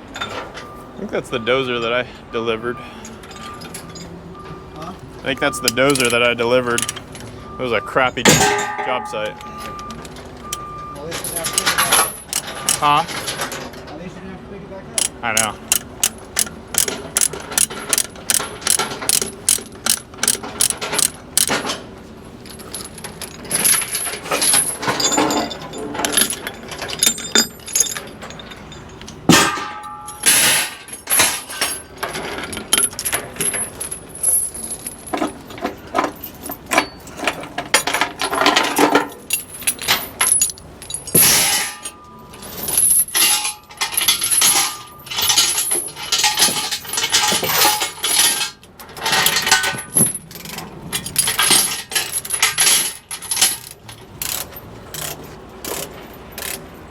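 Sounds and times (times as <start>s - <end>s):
metal chains clinking and clanking: 0.0s - 14.0s, 15.0s - 56.9s.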